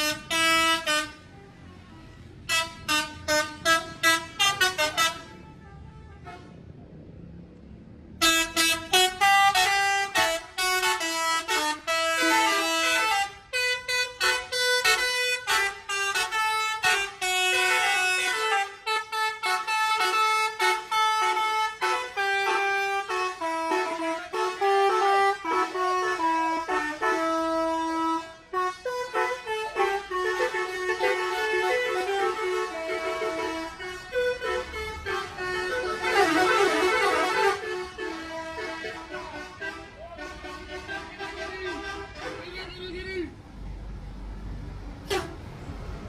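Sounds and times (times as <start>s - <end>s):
multi-trumpet air horns playing tunes: 0.0s - 1.2s, 2.5s - 5.4s, 8.2s - 42.8s, 45.0s - 45.4s.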